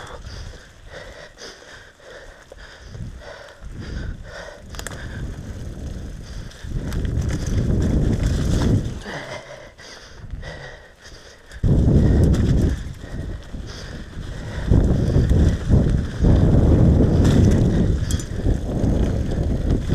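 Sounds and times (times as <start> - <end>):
bike rattling over bumps: 0.0 - 19.9
tyres rumbling on dirt trail: 0.0 - 19.9.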